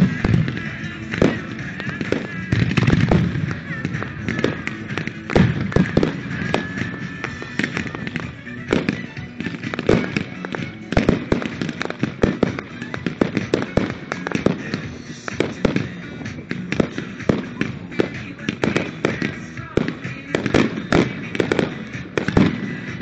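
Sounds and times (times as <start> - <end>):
disco music: 0.0 - 23.0
fireworks bangs and pops: 0.0 - 23.0
fireworks crackling: 0.0 - 23.0.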